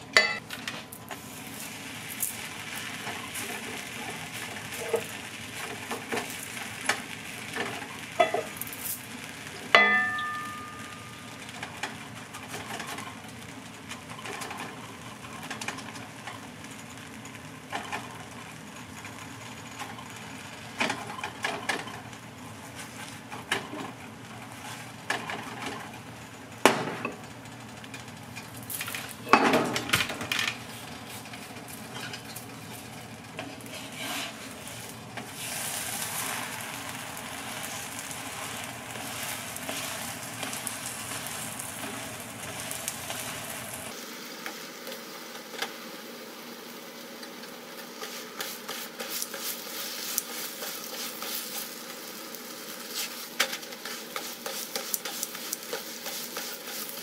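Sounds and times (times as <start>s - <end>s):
oil sizzling under dough: 0.0s - 57.0s.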